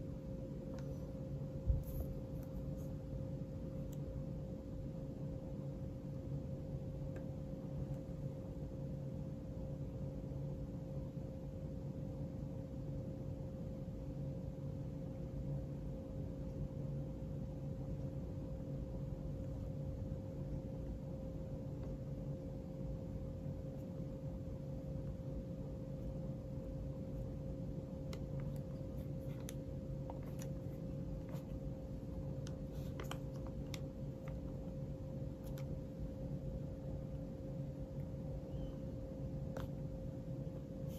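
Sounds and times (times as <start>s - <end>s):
faint steady tone: 0.0s - 40.9s
low background hum: 0.0s - 40.9s.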